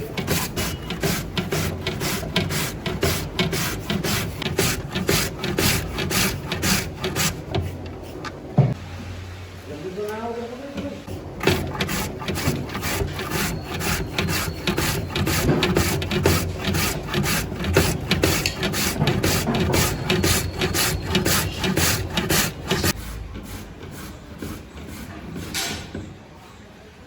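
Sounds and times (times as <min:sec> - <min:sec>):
rhythmic scraping strokes: 0:00.0 - 0:08.2, 0:11.0 - 0:25.9.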